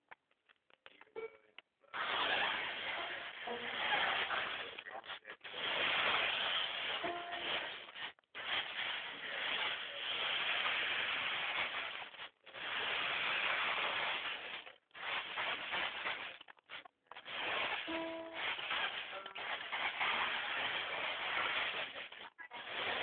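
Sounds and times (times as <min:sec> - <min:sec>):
toy car electric motor whirring: 0:02.0 - 0:04.8, 0:05.5 - 0:23.0.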